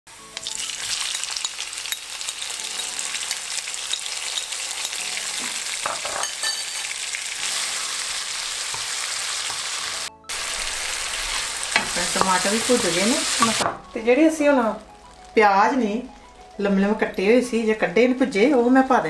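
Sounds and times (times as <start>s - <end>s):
vegetables sizzling in oil: 0.1s - 18.8s.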